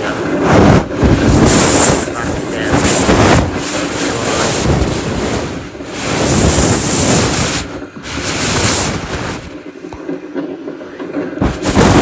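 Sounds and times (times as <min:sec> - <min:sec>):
wind buffeting microphone: 0:00.0 - 0:09.6, 0:11.4 - 0:12.0.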